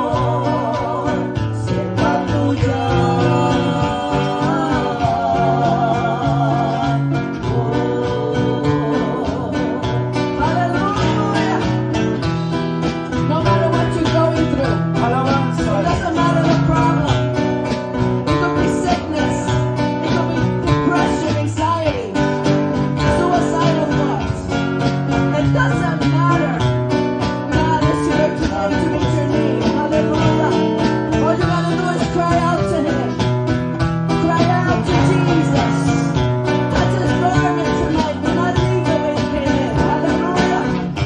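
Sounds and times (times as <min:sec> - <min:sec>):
guitars playing held chords: 0:00.0 - 0:41.0
steady drum beat: 0:00.0 - 0:41.0.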